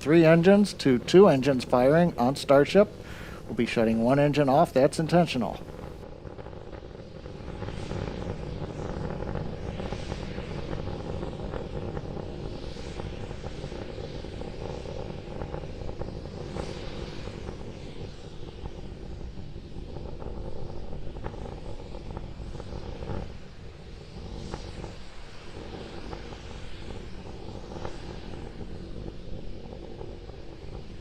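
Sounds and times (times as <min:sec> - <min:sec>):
distant rocket engine rumble: 0:00.0 - 0:31.0.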